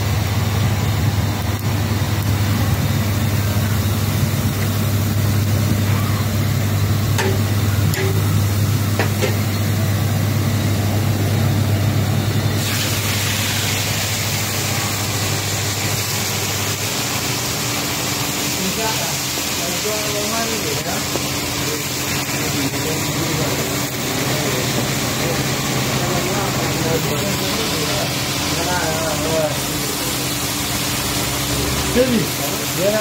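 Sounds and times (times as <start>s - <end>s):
fish deep-frying in oil hiss: 0.0s - 33.0s
loud low engine hum: 0.0s - 33.0s.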